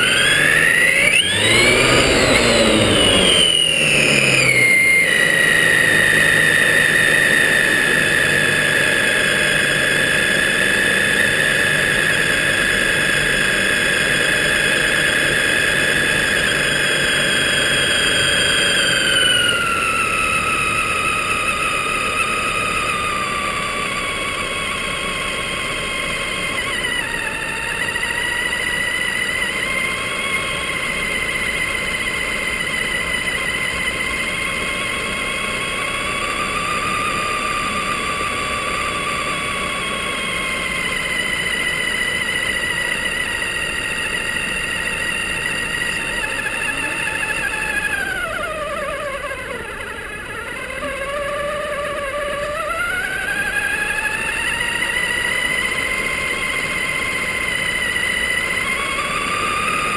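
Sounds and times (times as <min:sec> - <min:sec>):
electric motor whining: 0:00.0 - 0:59.9.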